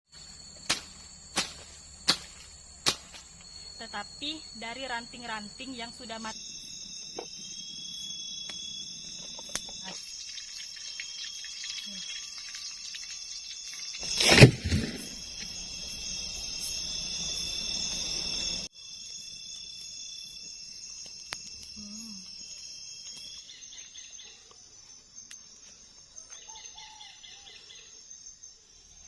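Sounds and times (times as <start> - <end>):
insects buzzing and trilling: 0.0 - 29.0.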